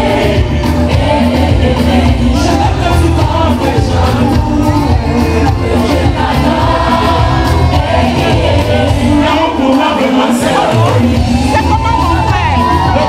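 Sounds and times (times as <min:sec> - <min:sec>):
loud music with singer: 0:00.0 - 0:13.0.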